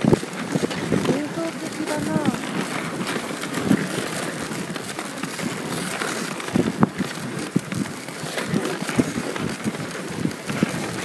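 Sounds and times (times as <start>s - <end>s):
sled knocks and clicks: 0.0s - 11.0s
sled runners hissing on snow: 0.0s - 11.0s.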